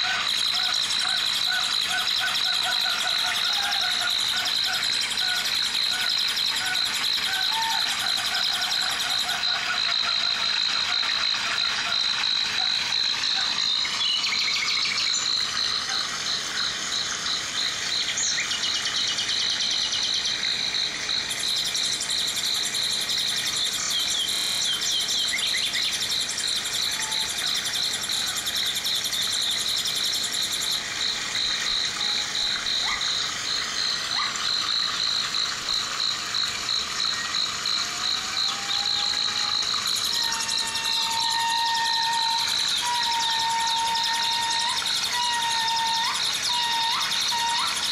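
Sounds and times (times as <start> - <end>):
insect trilling: 0.0 - 47.9.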